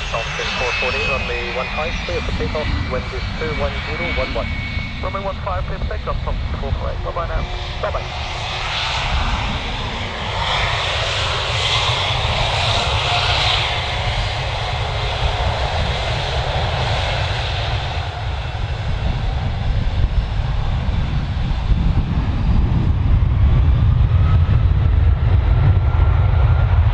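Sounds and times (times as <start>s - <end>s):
jet engines at takeoff power: 0.0s - 26.9s.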